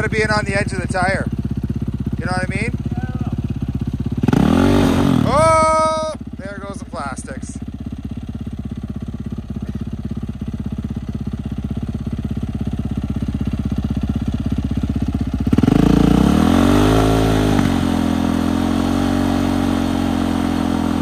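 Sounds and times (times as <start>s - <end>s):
dirt bike engine: 0.0s - 21.0s.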